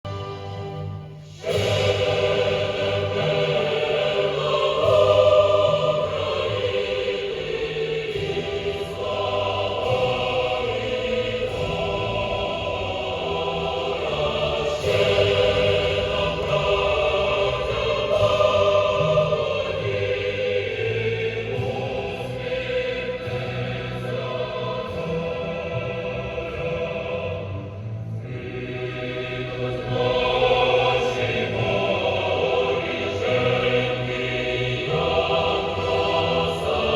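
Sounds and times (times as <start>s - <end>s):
choir singing with music: 0.0s - 36.9s.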